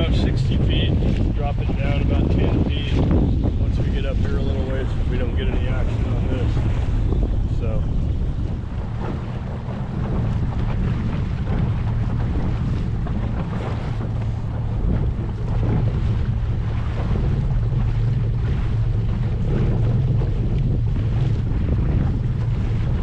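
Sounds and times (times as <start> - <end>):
boat motor humming: 0.0 - 23.0
water washing: 0.0 - 23.0
wind buffeting microphone: 0.0 - 23.0.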